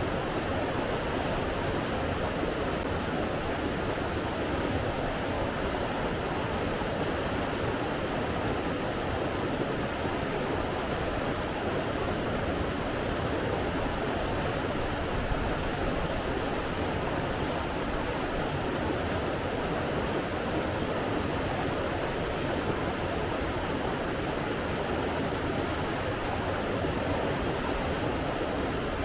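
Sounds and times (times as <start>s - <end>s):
rushing water: 0.0s - 29.0s.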